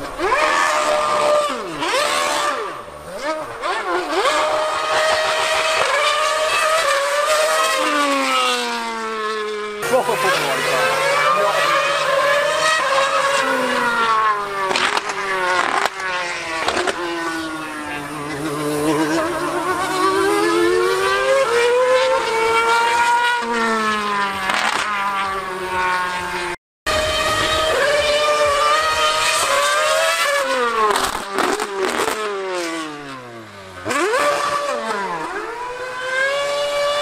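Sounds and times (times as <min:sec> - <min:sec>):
racing engine revving: 0:00.0 - 0:37.0.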